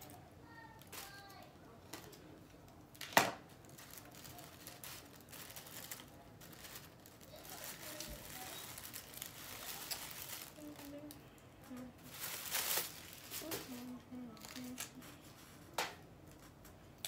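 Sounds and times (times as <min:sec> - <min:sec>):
plastic wrapping crinkling: 0:00.0 - 0:15.6.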